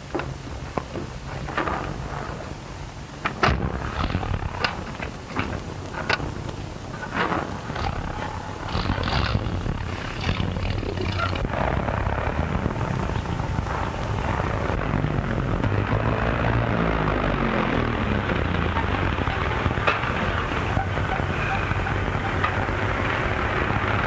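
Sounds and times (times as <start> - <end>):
car engine drone: 0.0 - 24.0
film soundtrack hiss: 0.0 - 24.0.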